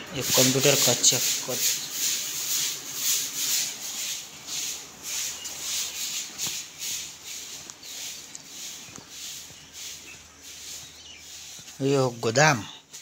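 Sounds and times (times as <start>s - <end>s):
footsteps: 0.0s - 13.0s.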